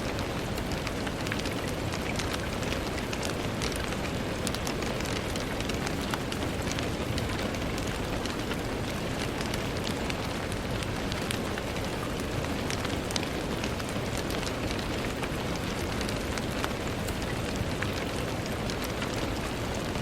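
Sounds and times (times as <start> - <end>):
rain falling on a window: 0.0 - 20.0.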